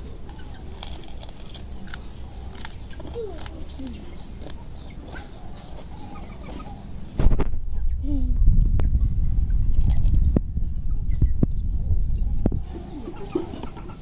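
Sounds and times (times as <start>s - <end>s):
faint bird calls: 0.0s - 9.1s, 10.9s - 14.0s
low steady hum: 0.0s - 14.0s.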